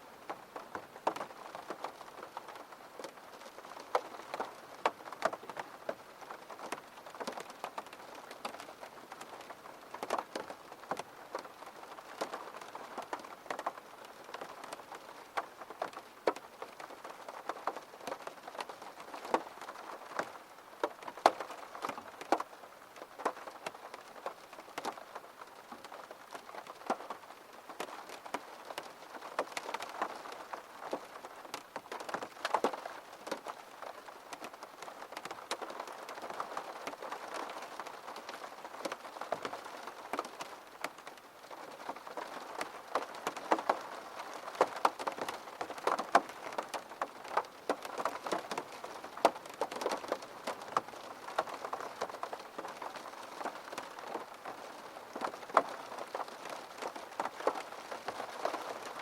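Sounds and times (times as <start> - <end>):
rain drops tapping: 0.0 - 59.0.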